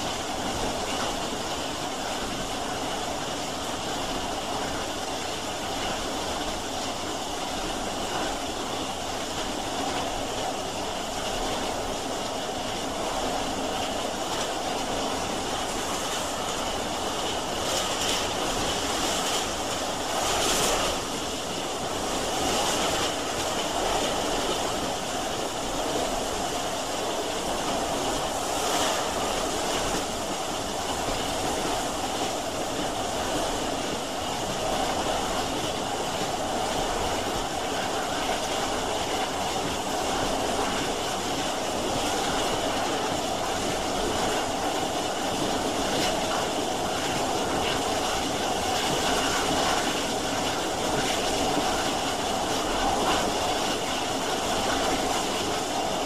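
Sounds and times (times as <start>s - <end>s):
steam train running: 0.0s - 56.0s.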